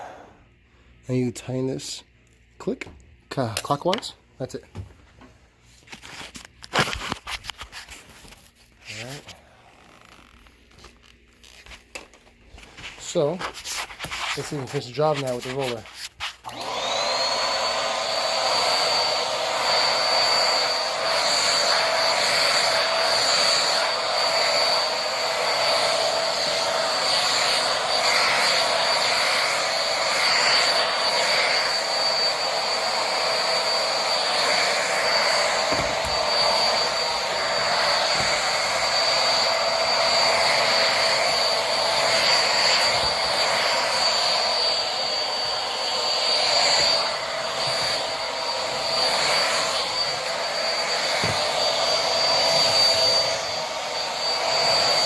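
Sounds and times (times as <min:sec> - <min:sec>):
vacuum cleaner running: 0:00.0 - 0:02.0, 0:05.9 - 0:55.0.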